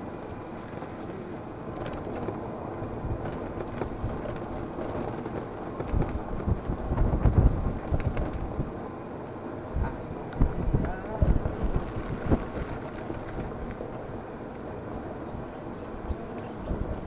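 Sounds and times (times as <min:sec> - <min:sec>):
golf cart driving: 0:00.0 - 0:17.0
low rumbles: 0:00.0 - 0:17.0.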